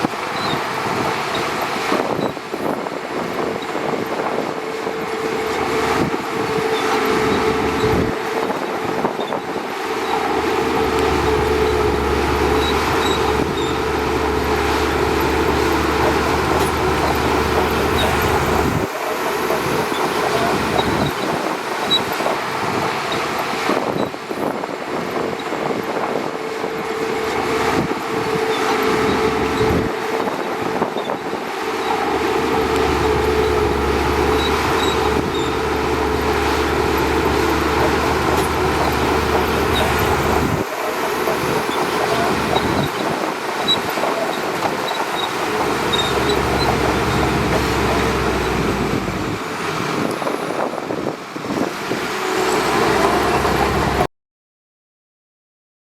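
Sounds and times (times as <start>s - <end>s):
bulldozer diesel engine rumbling: 0.0s - 54.1s.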